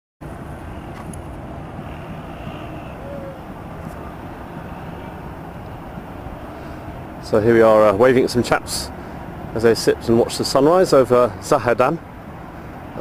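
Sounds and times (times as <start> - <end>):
low outdoor rumble: 0.2 - 13.0.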